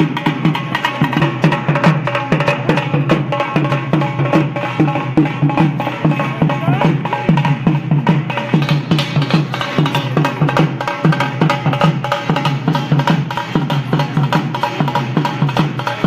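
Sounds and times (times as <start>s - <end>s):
music with fast drum beat: 0.0s - 16.0s.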